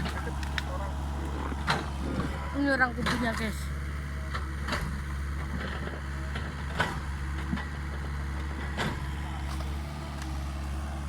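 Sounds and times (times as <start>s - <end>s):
excavator engine droning: 0.0s - 11.0s.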